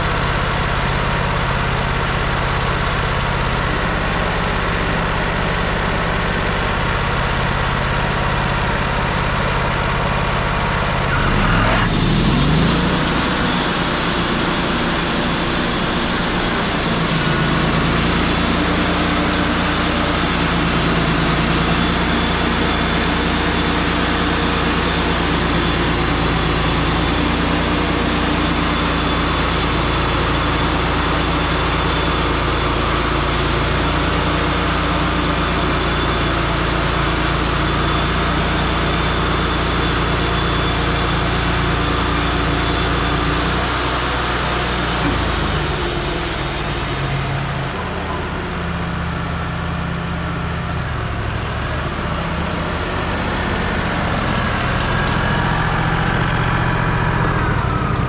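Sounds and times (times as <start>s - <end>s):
bandsaw sawmill running: 0.0s - 58.0s.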